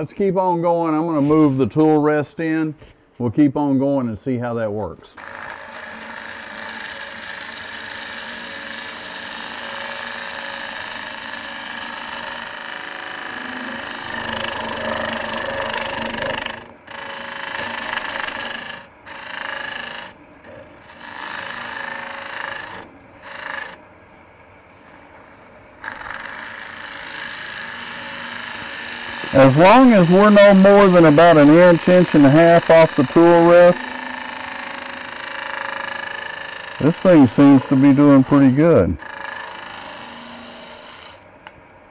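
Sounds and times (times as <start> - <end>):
tool rasping on spinning wood: 5.2 - 23.8, 25.8 - 41.2
lathe humming: 5.2 - 23.9, 24.7 - 41.6.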